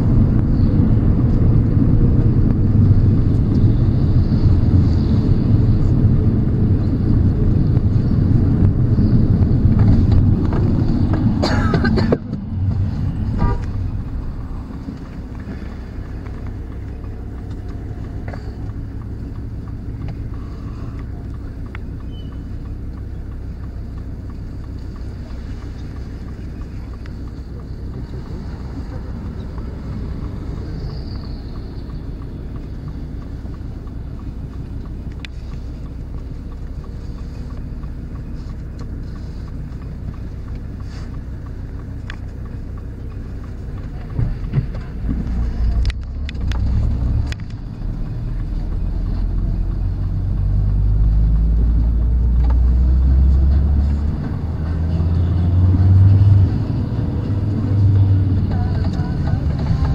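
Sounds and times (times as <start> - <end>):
car engine accelerating: 0.0 - 59.9
road noise inside car: 0.0 - 59.9
sharp clicks: 1.1 - 59.9.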